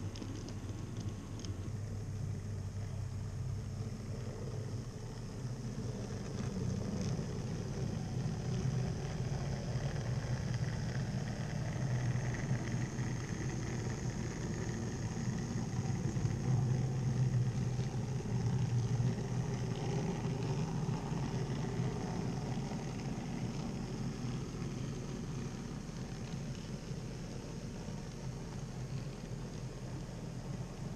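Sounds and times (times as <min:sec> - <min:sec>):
model train rumbling on track: 0:00.0 - 0:30.9.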